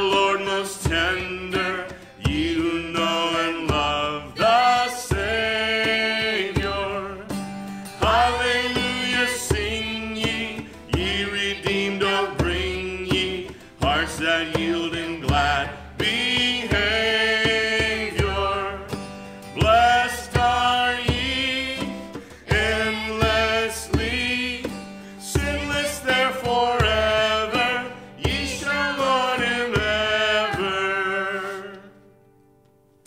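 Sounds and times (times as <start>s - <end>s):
hand drum beat: 0.0s - 31.4s
group singing a hymn: 0.0s - 32.0s
acoustic guitar: 0.0s - 33.0s.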